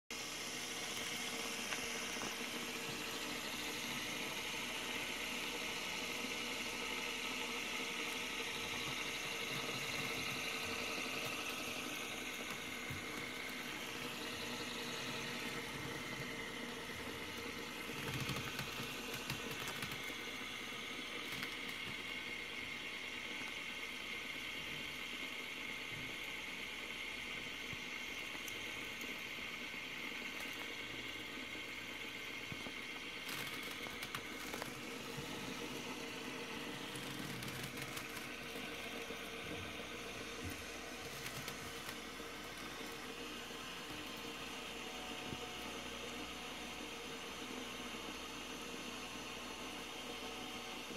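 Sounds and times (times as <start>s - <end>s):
fidget spinner whirring: 0.2s - 50.9s.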